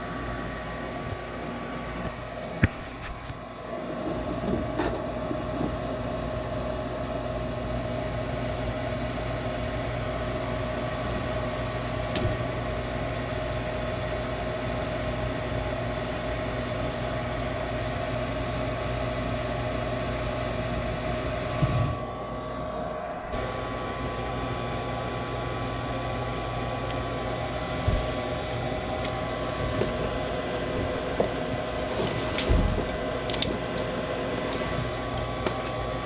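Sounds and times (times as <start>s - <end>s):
motor humming and whining: 0.0s - 36.0s.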